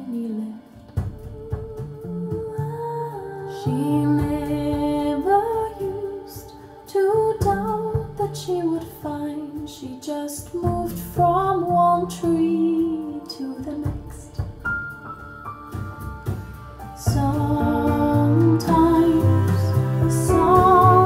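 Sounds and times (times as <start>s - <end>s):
woman singing: 0.0s - 14.6s, 17.0s - 21.0s
instrumental backing music: 0.0s - 21.0s.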